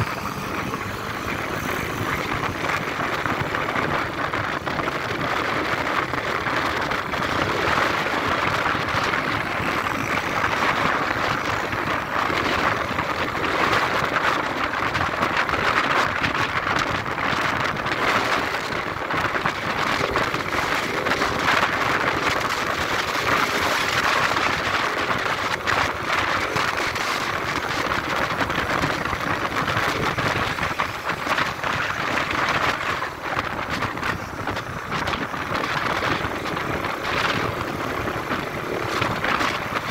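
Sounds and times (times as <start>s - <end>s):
motorcycle engine and road noise: 0.0s - 39.9s
wind rushing on microphone: 0.0s - 39.9s.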